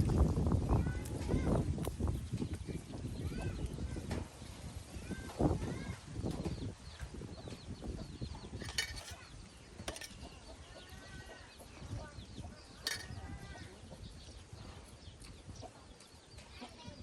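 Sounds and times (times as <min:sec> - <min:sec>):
wind on microphone: 0:00.0 - 0:17.0
birds chirping: 0:00.7 - 0:17.0.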